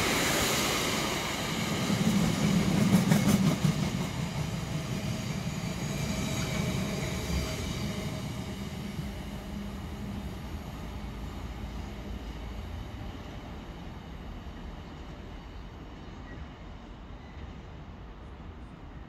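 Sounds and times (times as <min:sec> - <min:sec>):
train rumbling and humming: 0:00.0 - 0:19.0.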